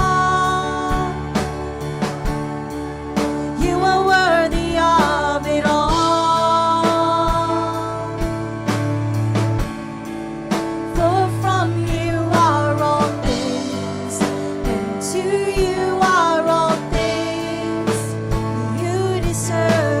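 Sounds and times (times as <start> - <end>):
live worship band music: 0.0 - 20.0.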